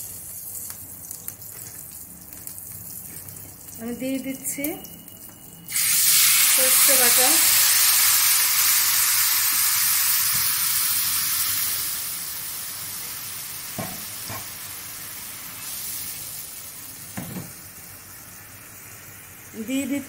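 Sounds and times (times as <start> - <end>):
paste sizzling in hot oil: 0.0 - 20.0.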